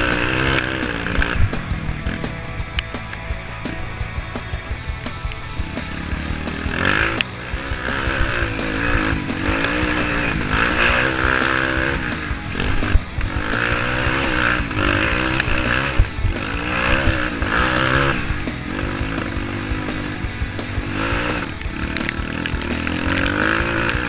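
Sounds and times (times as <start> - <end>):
vehicle engine revving: 0.0 - 24.0.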